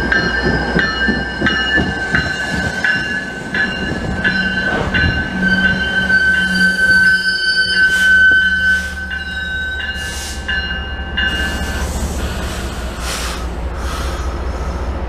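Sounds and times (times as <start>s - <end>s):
train wheels squealing: 0.1s - 15.0s.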